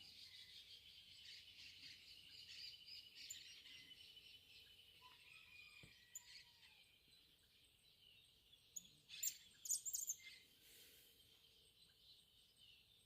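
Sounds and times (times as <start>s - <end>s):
bird chirping: 0.0s - 13.0s
faint high-pitched rural background: 0.0s - 13.0s.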